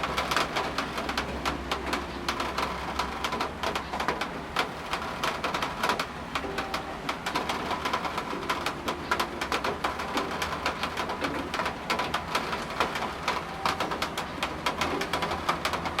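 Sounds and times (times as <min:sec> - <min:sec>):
raindrops hitting hard surface: 0:00.0 - 0:16.0.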